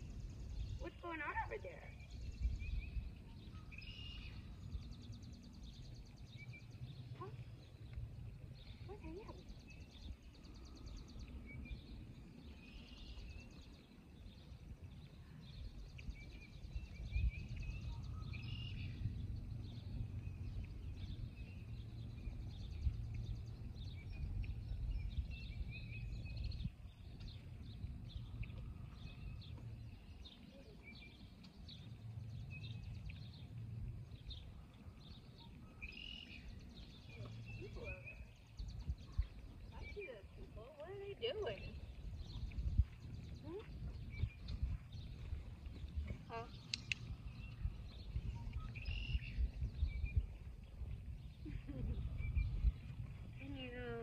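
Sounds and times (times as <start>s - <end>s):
birds chirping and singing: 0.0s - 54.0s
wind rumble on microphone: 0.0s - 54.0s.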